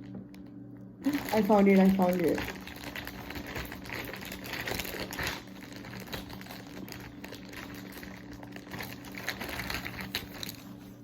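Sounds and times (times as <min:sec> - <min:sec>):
packaging crinkling and rustling: 0:01.0 - 0:11.0.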